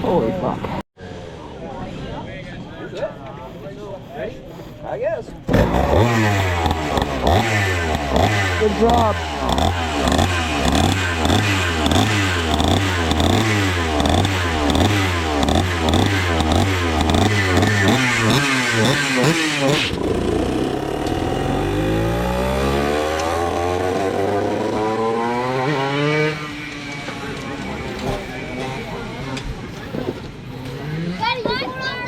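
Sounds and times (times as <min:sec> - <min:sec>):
go-kart engine revving: 0:05.4 - 0:32.0.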